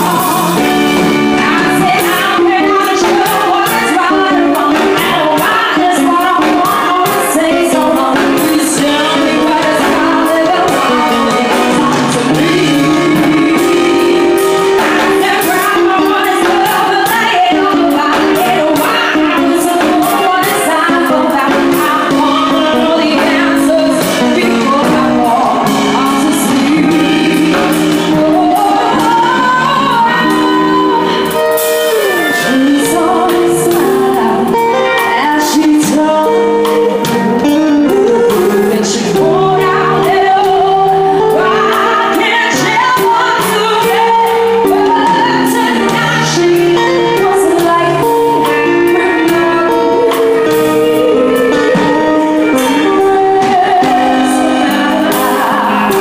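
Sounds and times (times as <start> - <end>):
amplified band playing: 0.0 - 56.0
woman singing into microphone: 0.0 - 56.0.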